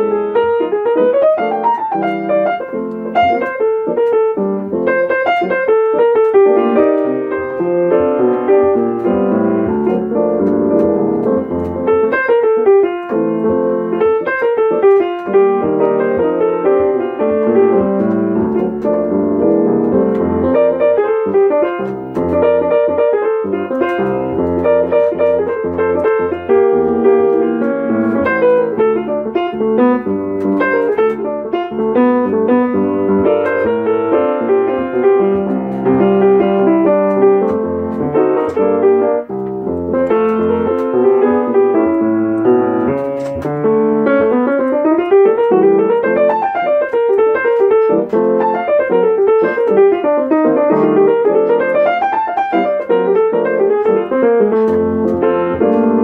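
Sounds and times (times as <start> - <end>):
solo jazz piano: 0.0 - 56.0.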